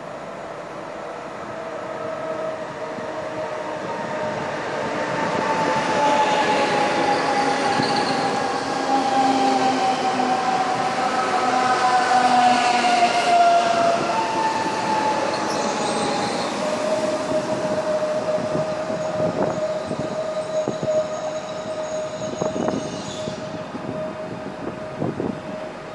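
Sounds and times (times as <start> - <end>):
train rolling noise: 0.0 - 25.9.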